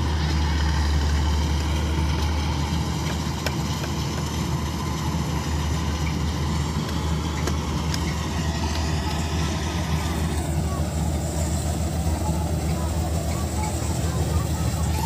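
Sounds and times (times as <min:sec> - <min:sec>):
combine harvester engine droning: 0:00.0 - 0:15.0.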